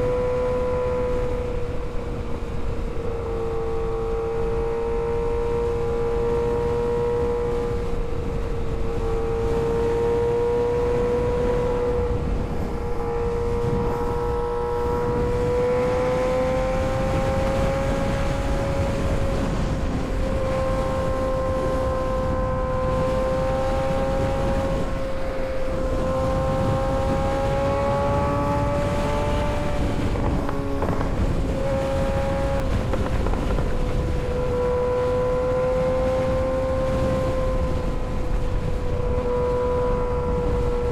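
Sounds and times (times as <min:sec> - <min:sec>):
motorcycle engine revving: 0:00.0 - 0:40.9
wind rushing over microphone: 0:00.0 - 0:40.9.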